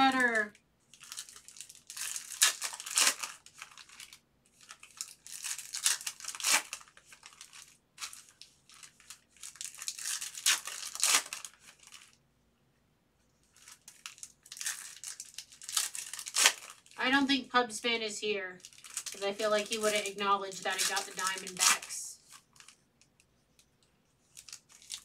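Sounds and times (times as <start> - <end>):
foil wrappers tearing and crinkling: 0.0 - 12.2, 13.5 - 17.0, 18.6 - 22.8, 24.3 - 25.0.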